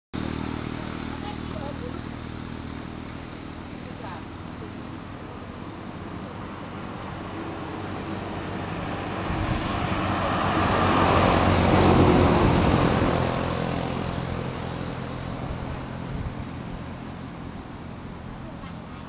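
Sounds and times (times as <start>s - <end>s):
vehicle driving past: 0.2s - 18.6s.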